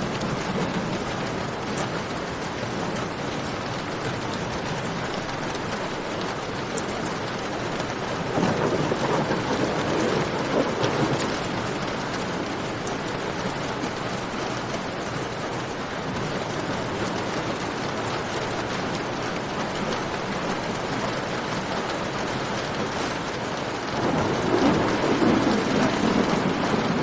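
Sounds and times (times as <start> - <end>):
steady rain: 0.0 - 27.0
thunder rumbling: 0.0 - 27.0.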